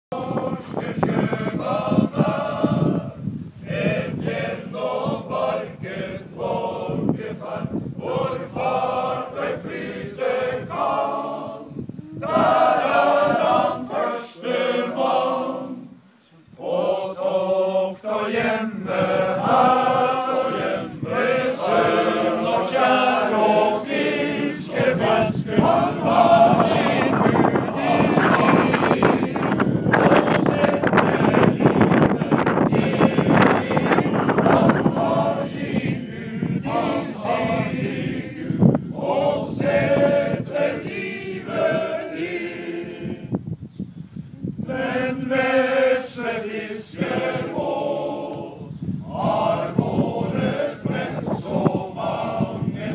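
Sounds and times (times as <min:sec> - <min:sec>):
male choir singing a cappella: 0:00.1 - 0:43.4, 0:44.6 - 0:52.9.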